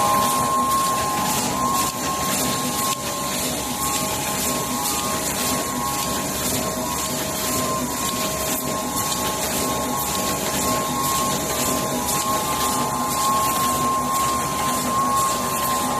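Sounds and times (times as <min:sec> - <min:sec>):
machine mechanical hum: 0:00.0 - 0:15.9
machine whine: 0:00.0 - 0:15.9.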